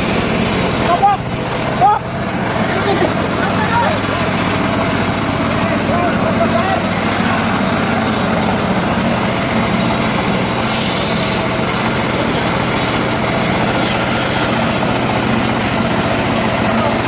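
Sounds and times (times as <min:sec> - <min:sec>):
engine-powered saw running: 0:00.0 - 0:17.0.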